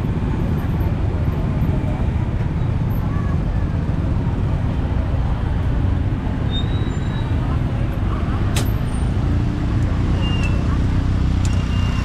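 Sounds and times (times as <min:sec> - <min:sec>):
motorbikes passing: 0:00.0 - 0:12.0
street traffic rumble: 0:00.0 - 0:12.0.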